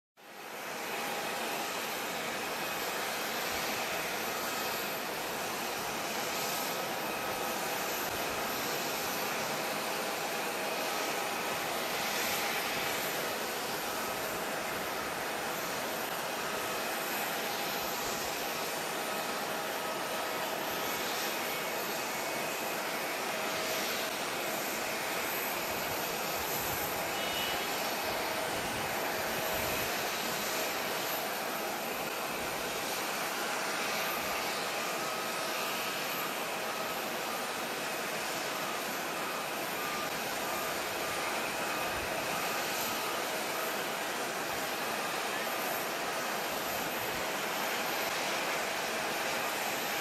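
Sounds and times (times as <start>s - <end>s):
jet engines idling: 0.6s - 50.0s.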